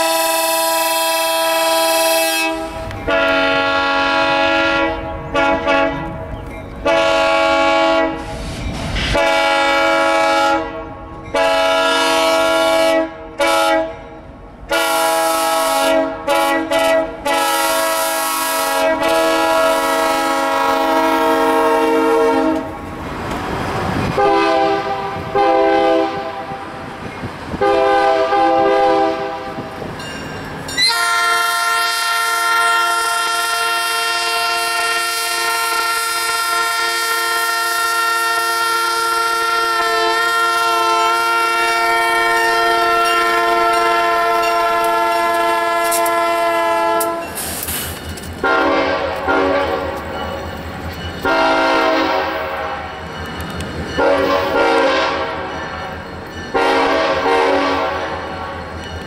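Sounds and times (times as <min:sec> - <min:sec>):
locomotive air horn chord blasts: 0:00.0 - 0:06.2, 0:06.8 - 0:14.0, 0:14.7 - 0:22.7, 0:24.1 - 0:26.7, 0:27.6 - 0:29.7, 0:30.8 - 0:47.4, 0:48.4 - 0:50.0, 0:51.2 - 0:53.0, 0:54.0 - 0:55.6, 0:56.5 - 0:58.5
engine and rail rumble: 0:00.0 - 0:59.0.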